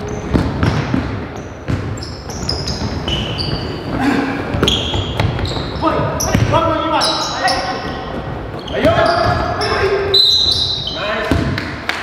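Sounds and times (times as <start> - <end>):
sneakers squeaking on wooden floor: 0.0 - 11.6
basketball bouncing on wood floor: 0.2 - 6.7, 7.7 - 9.8, 10.4 - 11.6.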